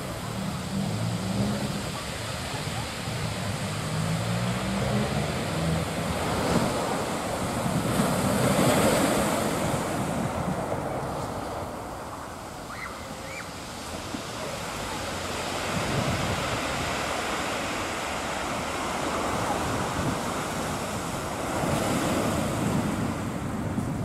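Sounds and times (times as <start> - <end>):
sea waves washing on beach: 0.0 - 24.0.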